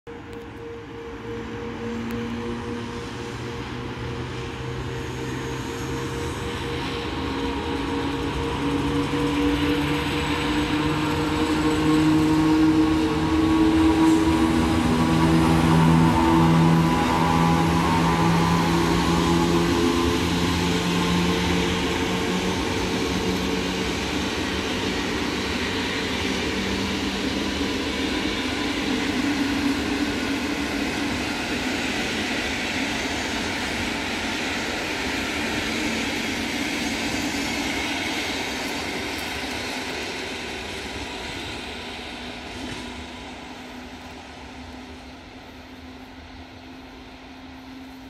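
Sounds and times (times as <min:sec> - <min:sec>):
electric locomotive hum: 0:00.1 - 0:48.0
train wheels rumbling on rails: 0:00.1 - 0:48.0.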